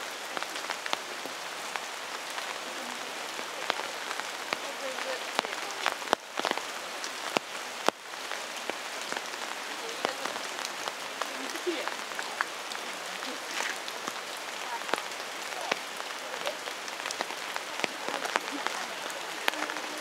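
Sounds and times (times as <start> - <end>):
rain falling on a pond: 0.0 - 20.0.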